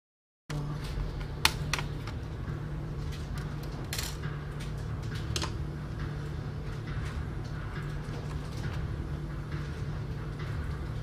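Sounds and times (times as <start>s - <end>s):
steady low hum: 0.5s - 11.0s.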